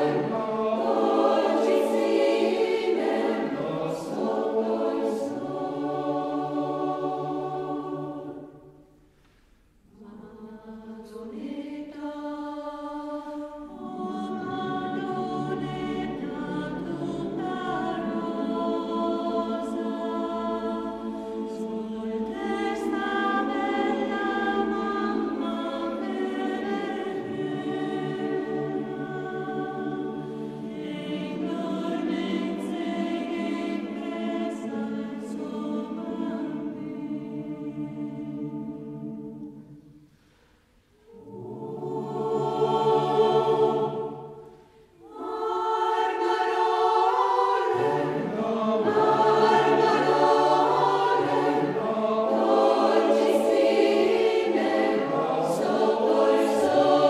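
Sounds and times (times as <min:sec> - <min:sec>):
mixed choir singing unaccompanied: 0:00.0 - 0:08.9, 0:09.9 - 0:40.0, 0:41.0 - 0:57.0.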